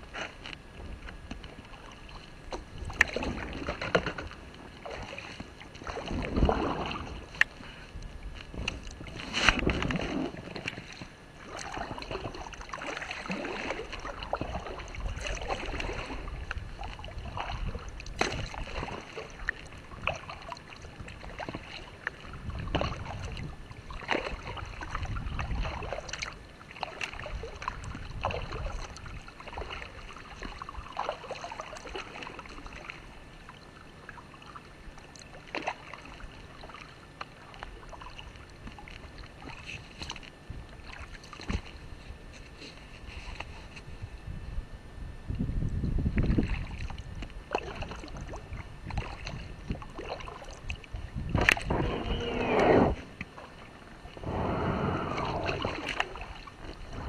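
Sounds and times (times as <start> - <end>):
paddle splashing water: 0.0 - 43.8, 46.2 - 57.0.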